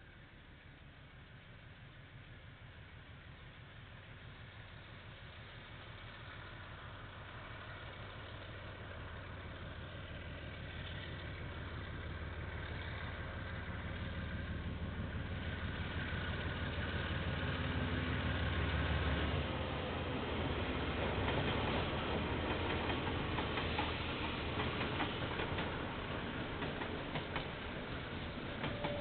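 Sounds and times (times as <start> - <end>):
diesel locomotive engine approaching: 0.0 - 29.0.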